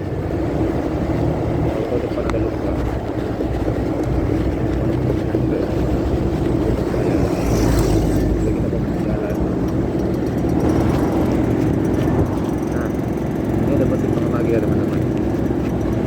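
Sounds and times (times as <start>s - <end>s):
muffled motorcycle engine rumble: 0.0s - 16.0s
wind noise: 0.0s - 16.0s.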